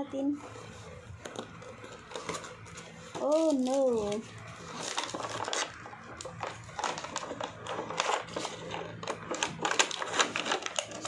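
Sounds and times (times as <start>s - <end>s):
parcel packaging crinkling: 0.4s - 11.0s.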